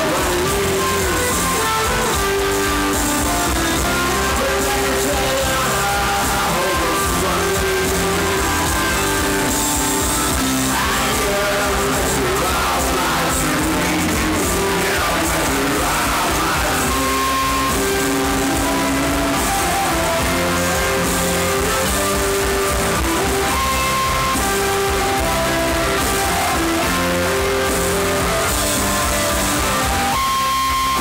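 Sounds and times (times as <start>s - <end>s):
drums: 0.0s - 31.0s
electric guitar: 0.0s - 31.0s
melody of held notes: 0.0s - 31.0s.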